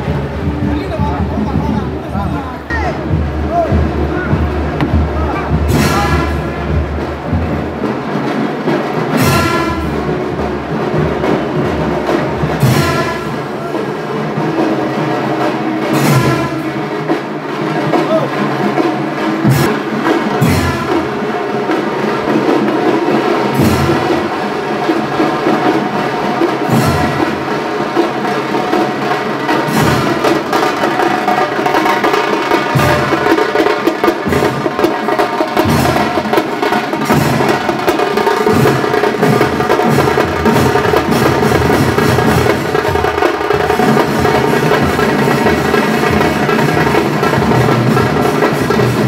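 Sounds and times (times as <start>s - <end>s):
heavy drum stroke: 0.0s - 49.0s
music with fast drumming: 0.0s - 49.0s.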